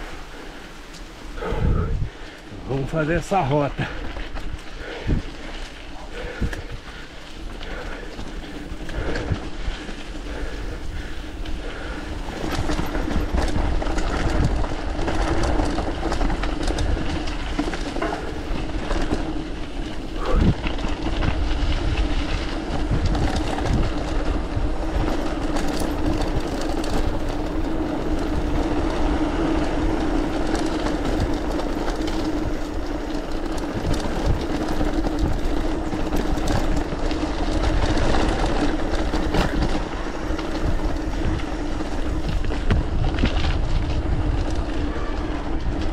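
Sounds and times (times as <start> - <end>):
bike rattling: 0.0 - 45.9
bike tyres rolling: 0.0 - 45.9
wind on microphone: 1.3 - 2.8, 3.8 - 45.9.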